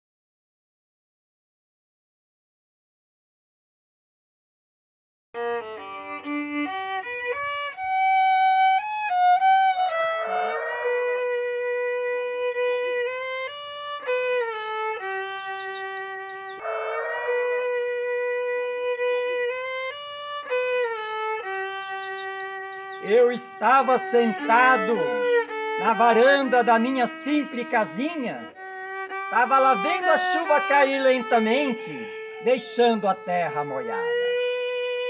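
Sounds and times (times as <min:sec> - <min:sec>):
solo violin melody: 0:05.4 - 0:35.0.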